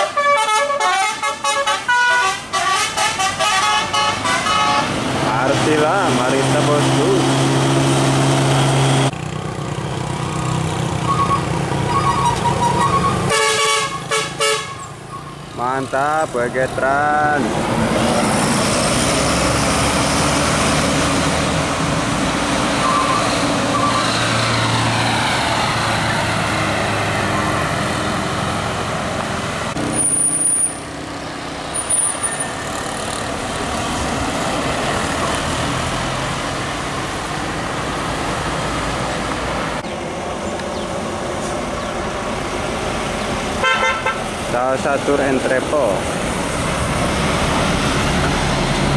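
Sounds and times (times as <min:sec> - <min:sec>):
tyres on road: 0:00.0 - 0:48.9.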